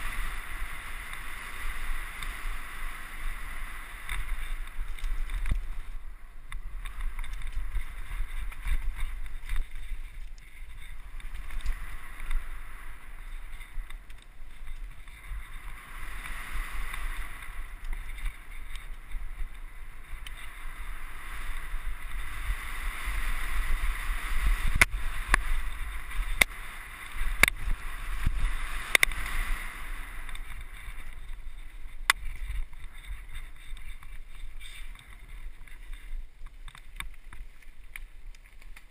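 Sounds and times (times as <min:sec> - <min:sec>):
bike tyre rumble: 0:00.0 - 0:38.9
wind rushing over microphone: 0:00.0 - 0:38.9.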